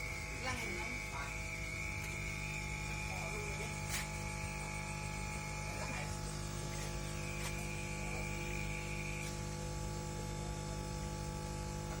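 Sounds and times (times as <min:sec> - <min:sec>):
electrical hum and buzz: 0:00.0 - 0:12.0
thin high whine: 0:00.0 - 0:12.0.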